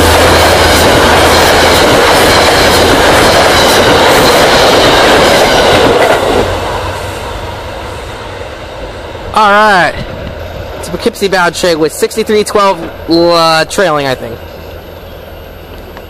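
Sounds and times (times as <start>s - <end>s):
train coaches rumbling past: 0.0s - 16.0s.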